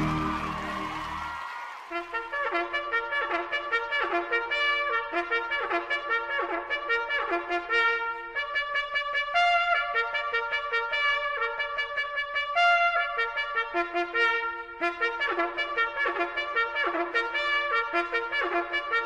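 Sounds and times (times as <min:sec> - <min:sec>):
trumpet solo melody: 0:00.0 - 0:19.0.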